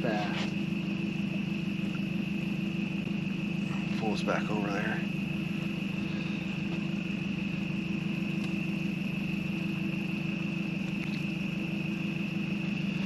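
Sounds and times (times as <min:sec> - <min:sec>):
boat motor humming: 0:00.0 - 0:13.0
night insects droning: 0:00.0 - 0:13.0.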